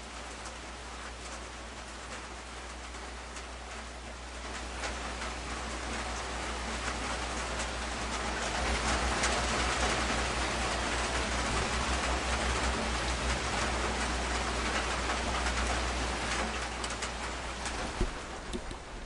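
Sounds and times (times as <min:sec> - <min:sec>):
rain on a metal roof: 0:00.0 - 0:19.0.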